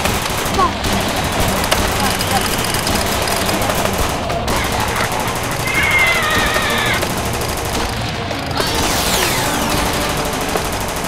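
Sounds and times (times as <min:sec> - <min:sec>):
background music: 0:00.0 - 0:11.0
machine-gun fire: 0:00.0 - 0:11.0.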